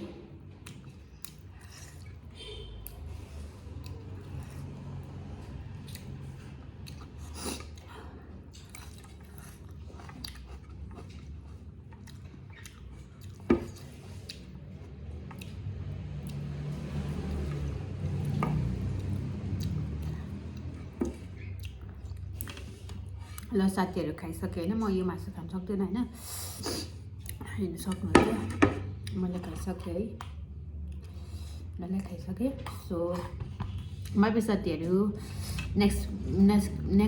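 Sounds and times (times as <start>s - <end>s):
chewing and wet mouth sounds: 0.2s - 25.5s, 26.1s - 28.1s, 28.8s - 36.9s.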